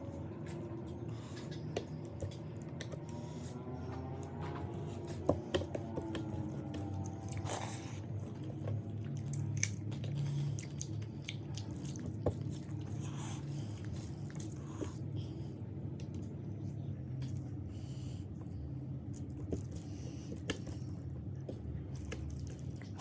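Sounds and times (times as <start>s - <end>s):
steady low hum: 0.0s - 23.0s
person chewing food: 0.3s - 16.4s, 18.4s - 23.0s.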